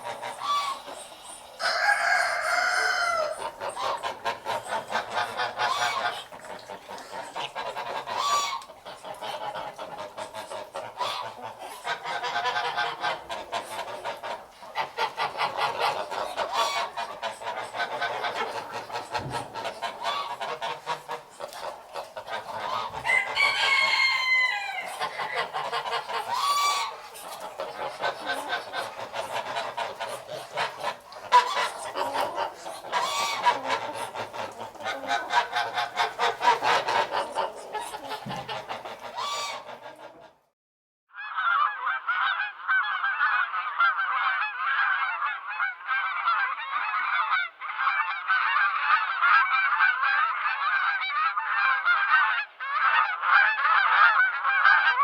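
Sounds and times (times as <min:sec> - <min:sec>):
geese honking: 0:00.0 - 0:40.4, 0:41.2 - 0:55.0.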